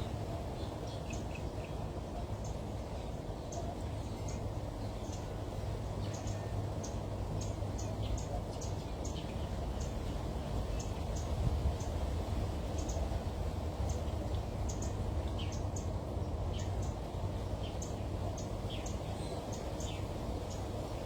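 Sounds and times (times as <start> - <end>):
small birds chirping: 0.3 - 21.0.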